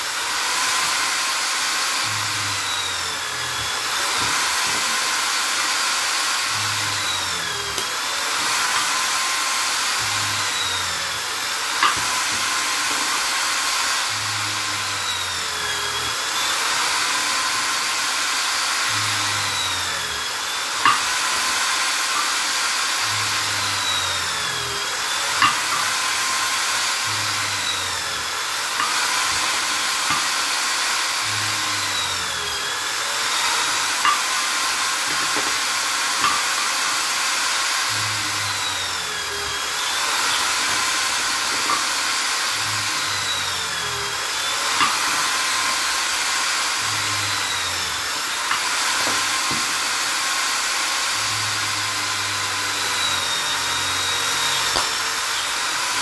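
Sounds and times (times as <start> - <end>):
electric drill boring wood: 0.0 - 56.0.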